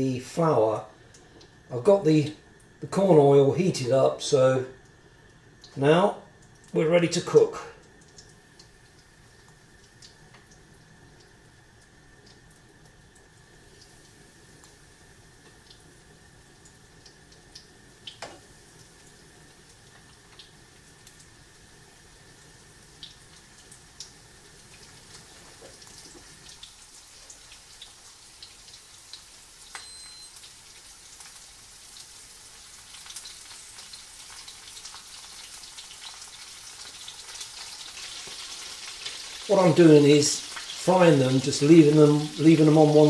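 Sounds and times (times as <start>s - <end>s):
oysters sizzling in oil: 4.2s - 43.0s.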